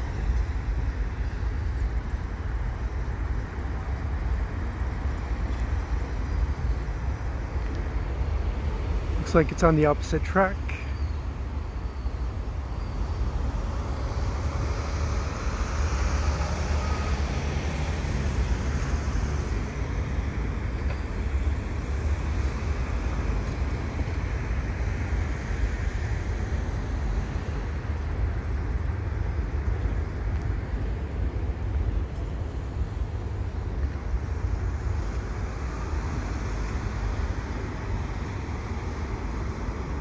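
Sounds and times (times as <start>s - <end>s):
freight train rumbling over bridge: 0.0s - 40.0s
street traffic passing: 0.0s - 40.0s.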